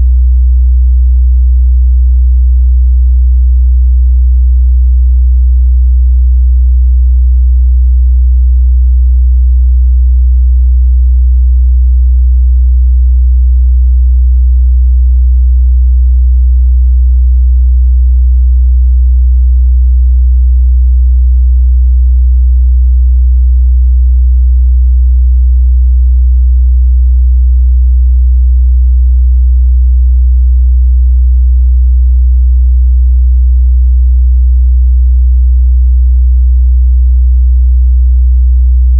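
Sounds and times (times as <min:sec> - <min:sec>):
low sine test tone: 0:00.0 - 0:35.5, 0:38.1 - 0:38.9.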